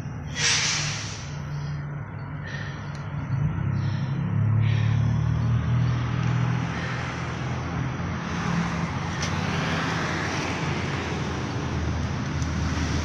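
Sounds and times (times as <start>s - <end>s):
steady low traffic hum: 0.0s - 13.0s
vehicle passing: 0.1s - 13.0s.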